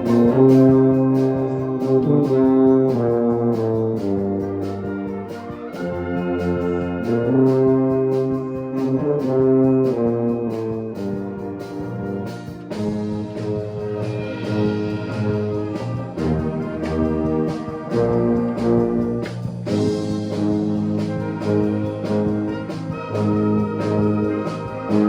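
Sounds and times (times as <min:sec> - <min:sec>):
brass sustained chords: 0:00.0 - 0:25.0
low tuba line: 0:00.0 - 0:25.0
steady drum beat: 0:00.0 - 0:25.0.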